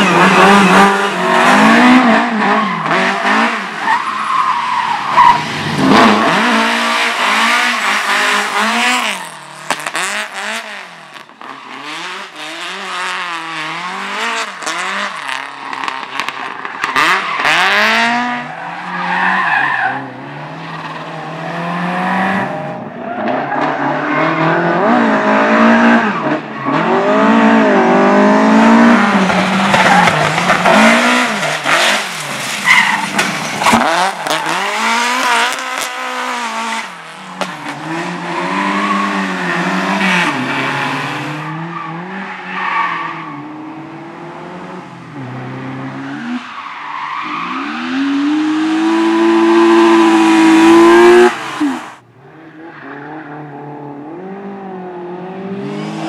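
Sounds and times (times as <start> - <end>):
race car engine revving: 0.0 - 3.9, 4.7 - 56.0.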